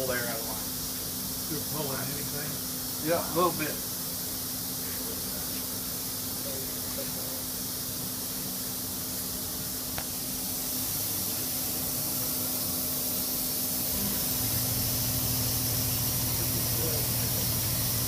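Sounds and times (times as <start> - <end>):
compressed air hiss: 0.0 - 18.0.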